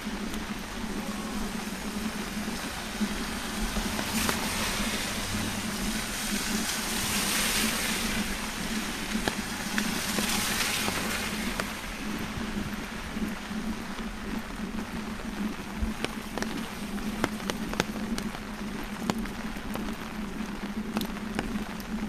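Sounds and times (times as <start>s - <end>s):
car tyres hissing on wet road: 0.0s - 21.3s
steady rain: 0.0s - 22.0s.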